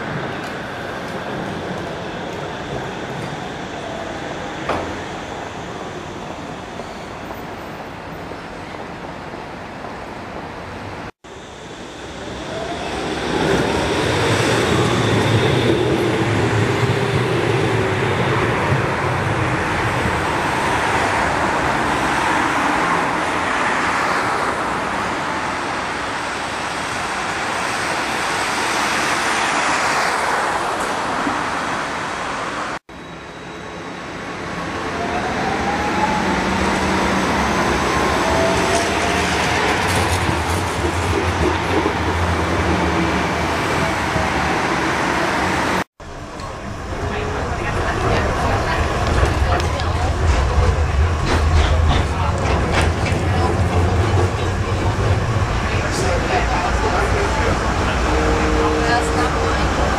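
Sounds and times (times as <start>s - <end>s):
street traffic noise: 0.0s - 59.9s
tram passing with whine: 0.0s - 59.9s.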